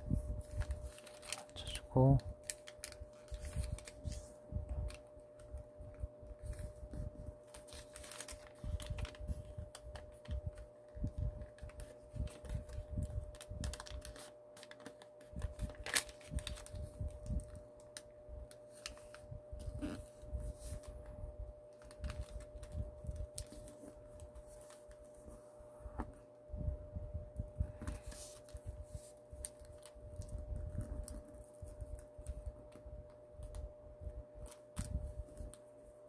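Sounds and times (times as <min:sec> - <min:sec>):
faint steady hum: 0:00.0 - 0:36.0
paper folding and rustling: 0:00.4 - 0:05.6, 0:06.3 - 0:21.1, 0:21.7 - 0:25.6, 0:27.7 - 0:33.7, 0:34.4 - 0:35.7.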